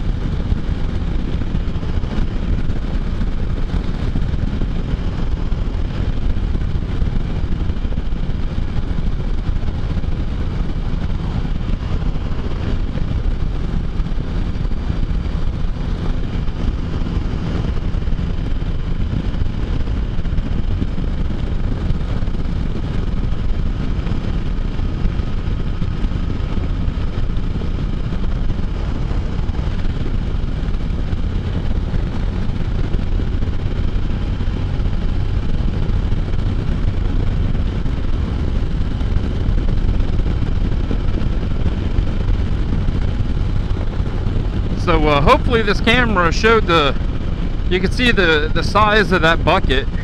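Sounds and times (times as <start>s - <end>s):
motorcycle engine cruising: 0.0s - 50.0s.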